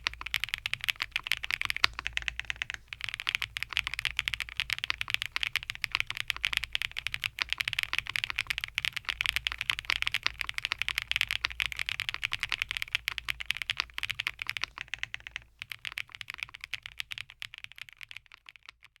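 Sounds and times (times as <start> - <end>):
mechanical keyboard typing: 0.0 - 19.0.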